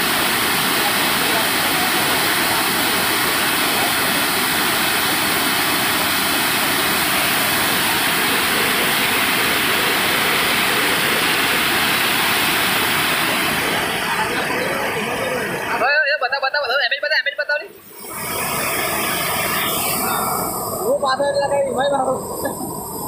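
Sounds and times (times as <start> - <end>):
water rushing down a spillway: 0.0 - 16.9, 17.9 - 22.8.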